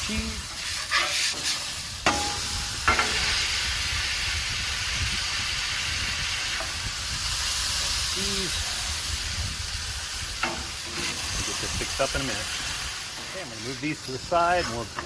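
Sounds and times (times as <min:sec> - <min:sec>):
patties sizzling on griddle: 0:00.0 - 0:15.0.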